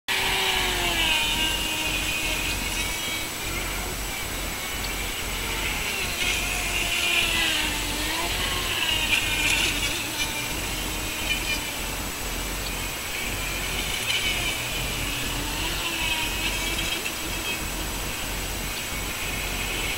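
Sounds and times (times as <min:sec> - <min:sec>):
electric motor whine: 0:00.1 - 0:19.9.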